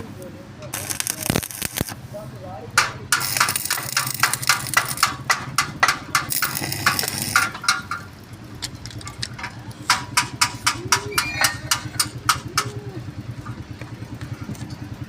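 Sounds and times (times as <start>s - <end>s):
welding arc crackling: 0.0s - 12.8s
steady low hum: 0.0s - 15.0s
sharp metallic clicks: 0.7s - 2.0s, 2.8s - 14.8s.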